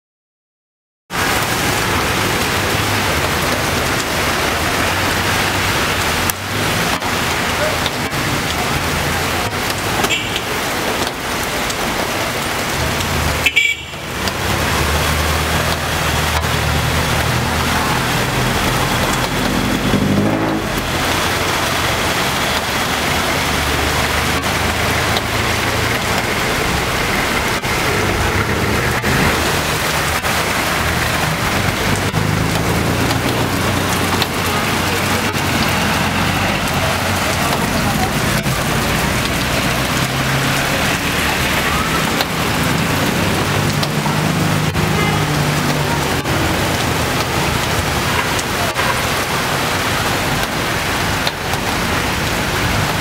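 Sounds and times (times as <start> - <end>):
heavy rain: 1.1 - 53.0
vehicles driving through water: 1.1 - 53.0.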